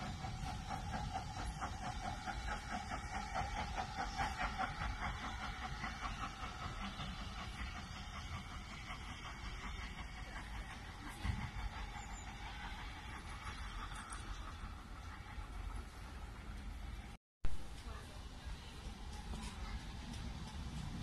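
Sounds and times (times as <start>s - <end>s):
steam locomotive exhaust chuffing: 0.0s - 21.0s.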